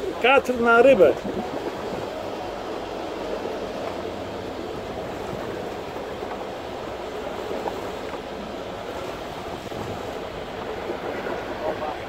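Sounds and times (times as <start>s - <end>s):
boat engine running: 0.0s - 12.0s
water and wind noise: 0.0s - 12.0s.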